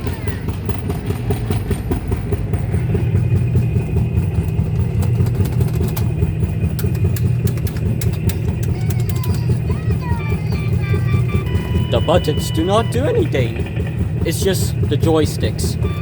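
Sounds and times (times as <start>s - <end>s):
kiddie ride motor humming: 0.0s - 16.0s.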